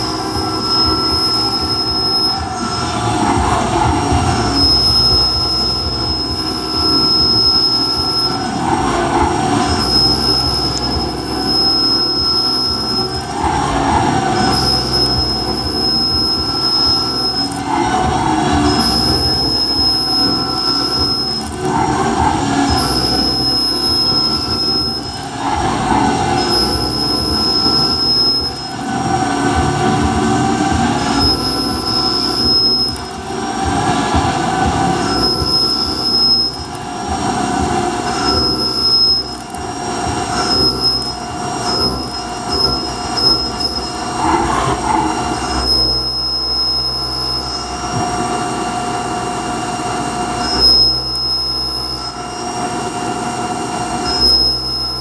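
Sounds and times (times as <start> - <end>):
milling machine running: 0.0 - 55.0
milling machine squealing whine: 0.0 - 55.0.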